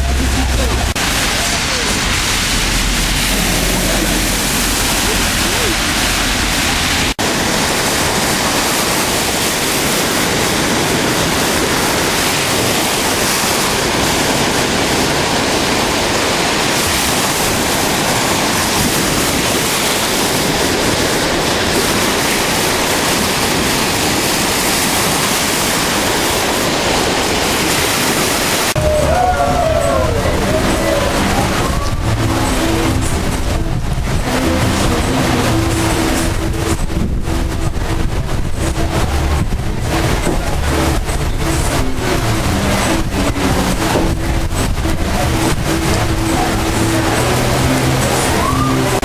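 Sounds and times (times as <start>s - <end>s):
floodwater rushing: 0.0s - 49.0s.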